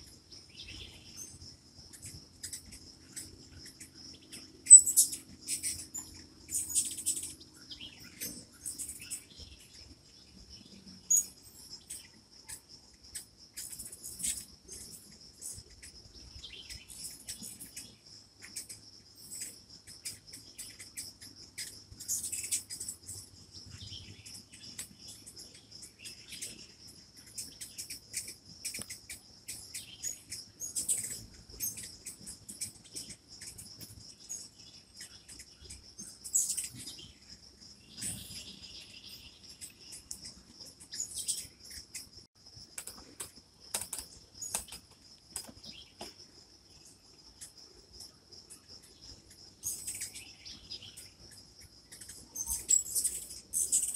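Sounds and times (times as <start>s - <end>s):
bird chips and chirps: 0.0s - 53.9s
insect drone: 0.0s - 53.9s.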